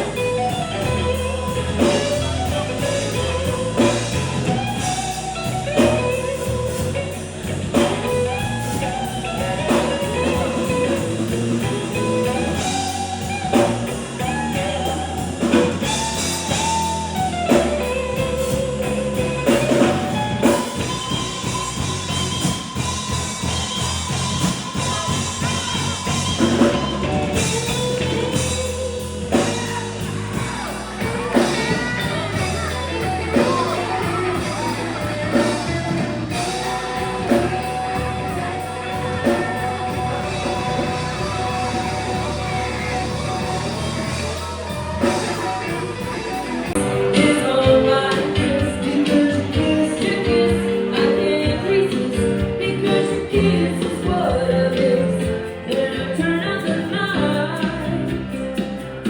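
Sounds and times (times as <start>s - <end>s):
low bass line: 0.0s - 56.5s
drum kit: 0.0s - 59.0s
electric guitar lead with bent notes: 0.0s - 59.0s.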